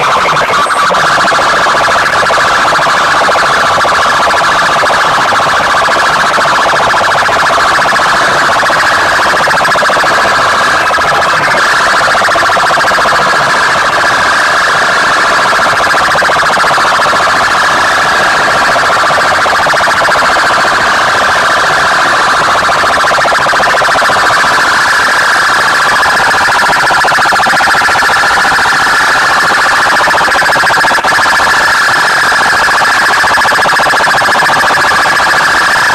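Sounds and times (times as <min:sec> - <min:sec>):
distorted pulsing alarm tone: 0:00.0 - 0:35.9.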